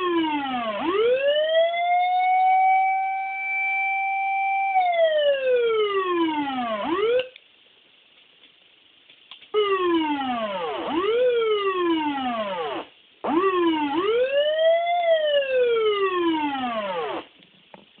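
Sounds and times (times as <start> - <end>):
electronic siren calls: 0.0 - 7.3, 9.6 - 17.3.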